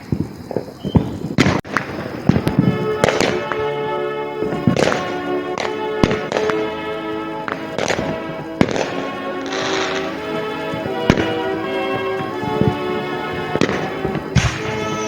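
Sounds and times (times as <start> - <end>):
fireworks bangs: 0.0 - 15.0
fireworks crackling: 0.0 - 15.0
music with sustained chords: 1.8 - 15.0.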